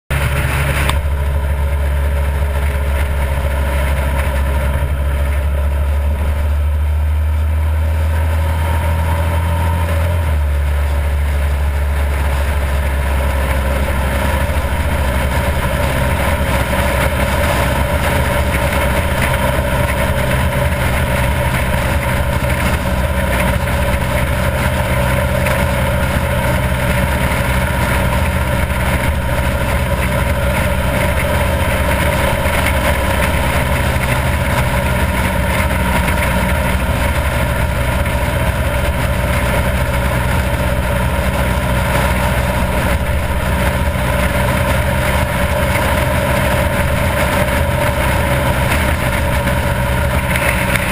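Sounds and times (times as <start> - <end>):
motorcycle engine cruising: 0.1 - 50.9
wind and road noise: 0.1 - 50.9.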